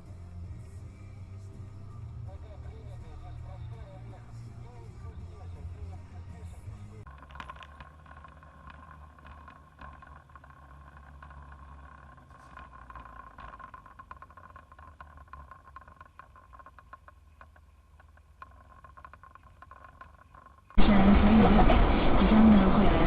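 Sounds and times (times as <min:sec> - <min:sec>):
faint ticks and rattles: 0:00.0 - 0:20.8
car engine and road rumble: 0:00.0 - 0:23.0
faint steady whine: 0:00.0 - 0:23.0.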